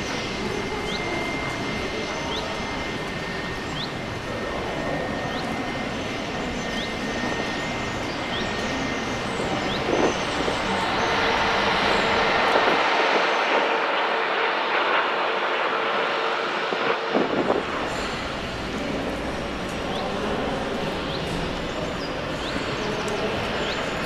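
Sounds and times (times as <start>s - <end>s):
faint steady whine: 0.0s - 24.0s
jet engine roar: 0.0s - 24.0s.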